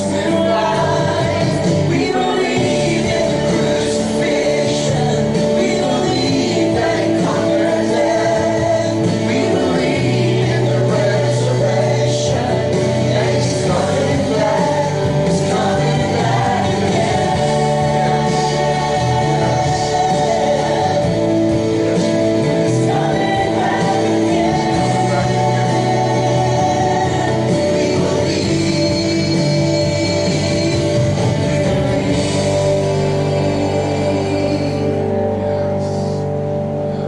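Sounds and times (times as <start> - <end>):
worship band with voices singing: 0.0 - 37.0.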